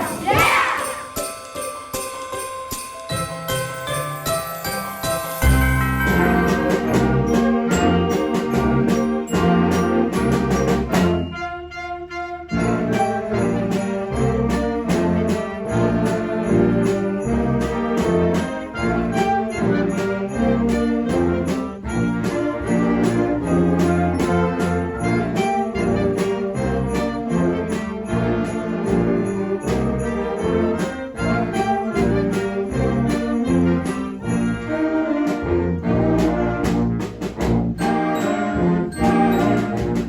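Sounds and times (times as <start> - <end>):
brass band playing: 0.0 - 1.4, 3.8 - 40.0
sleigh bells: 0.0 - 11.7, 12.6 - 36.1, 37.8 - 40.0.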